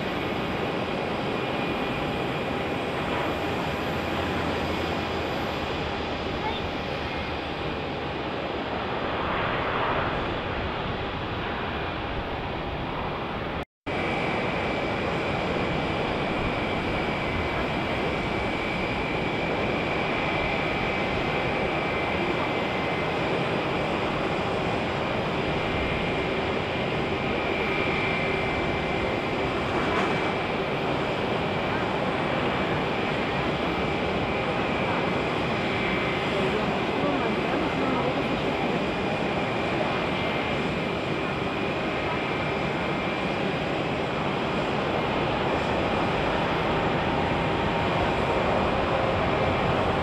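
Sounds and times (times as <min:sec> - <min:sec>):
jet engines taxiing: 0:00.0 - 0:50.0.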